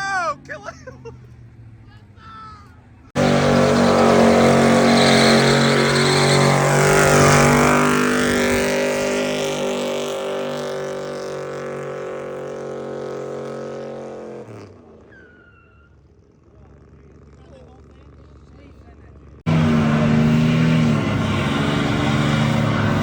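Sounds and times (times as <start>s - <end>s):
vehicle engine at high revs: 2.9s - 15.3s, 16.1s - 23.0s.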